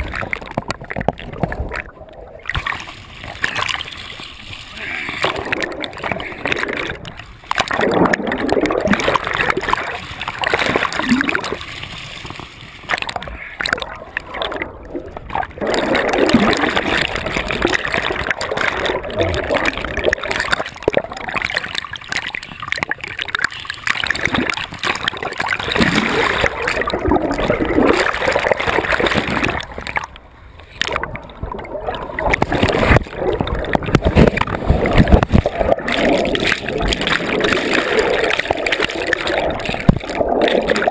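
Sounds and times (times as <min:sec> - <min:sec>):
river water splashing and gurgling: 0:00.0 - 0:40.9.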